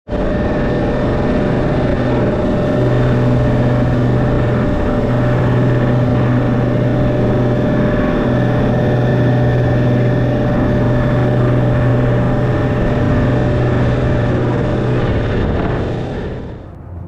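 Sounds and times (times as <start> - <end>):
motorboat engine running: 0.1 - 17.0
water noise: 0.2 - 16.8.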